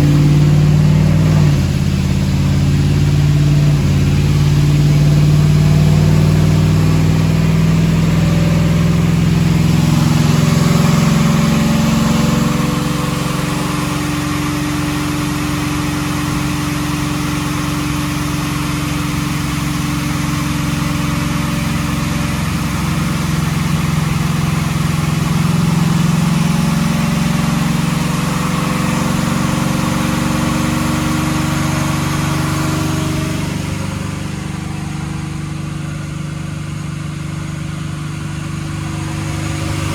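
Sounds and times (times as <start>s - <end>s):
pickup truck engine running: 0.0s - 39.9s.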